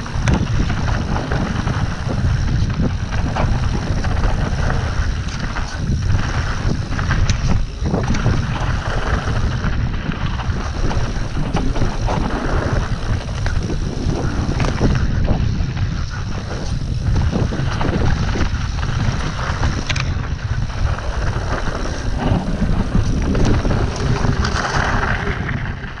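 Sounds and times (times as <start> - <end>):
bike clicks and rattles: 0.0 - 26.0
tyres hissing on gravel: 0.0 - 26.0
tyres rolling on dirt: 0.0 - 26.0
wind buffeting microphone: 0.0 - 26.0.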